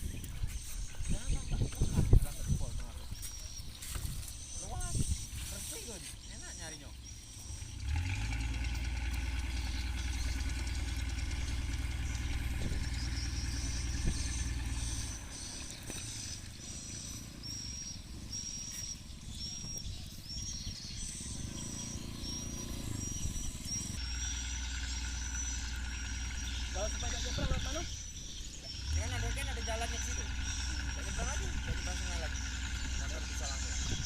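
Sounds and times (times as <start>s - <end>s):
motor engine rumbling: 0.0s - 34.0s.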